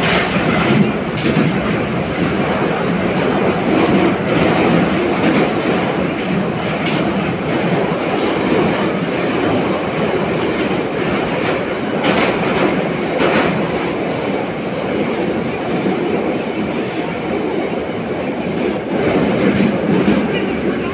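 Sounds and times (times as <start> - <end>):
rumble of wheels on rail: 0.0 - 20.9.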